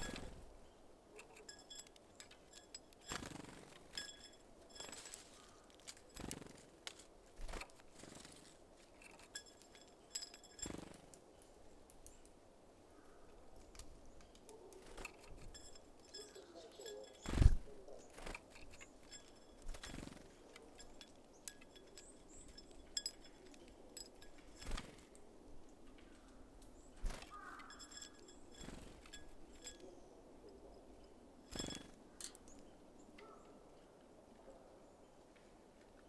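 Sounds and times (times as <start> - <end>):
birds tapping at seeds: 0.0 - 33.4.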